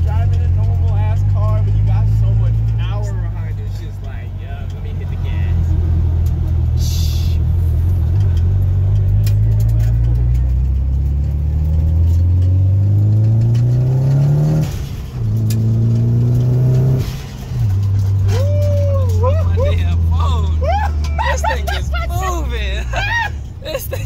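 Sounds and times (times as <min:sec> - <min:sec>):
car engine accelerating hard: 0:00.0 - 0:23.7.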